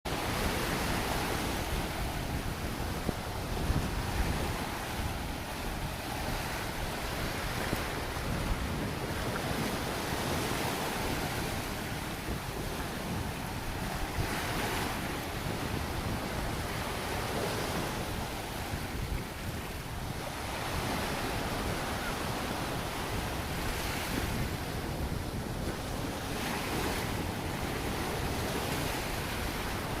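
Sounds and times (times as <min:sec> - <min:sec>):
ocean waves breaking: 0:00.1 - 0:30.0
wind on microphone: 0:00.1 - 0:30.0.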